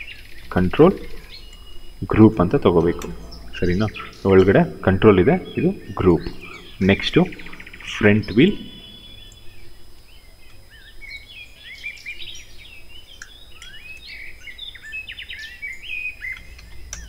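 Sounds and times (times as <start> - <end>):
faint low hum: 0.0 - 17.0
small birds chirping: 0.0 - 17.0.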